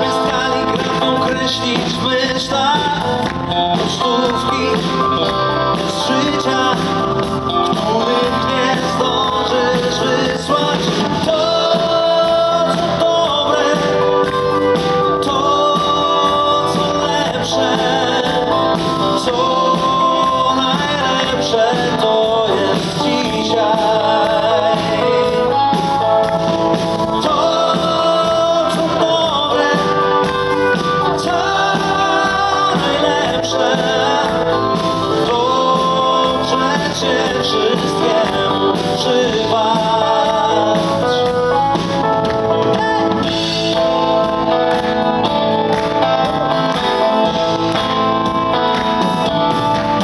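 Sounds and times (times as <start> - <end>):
live band playing pop song: 0.0 - 50.0
man singing: 0.0 - 50.0.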